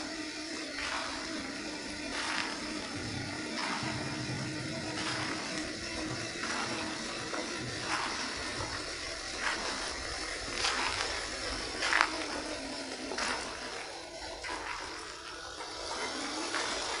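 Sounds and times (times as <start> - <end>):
steady hiss: 0.0 - 17.0
water splashing: 0.0 - 17.0.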